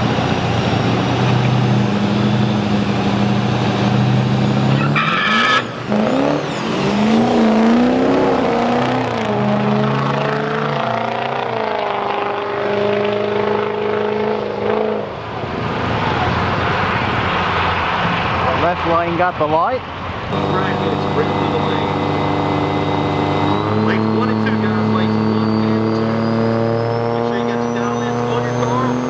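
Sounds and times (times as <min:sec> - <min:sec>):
drag race engines revving: 0:00.0 - 0:29.0.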